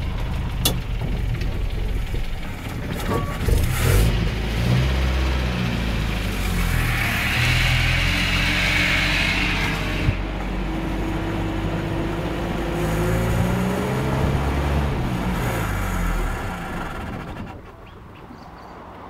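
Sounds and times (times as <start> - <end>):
engine running under load: 0.0 - 18.7.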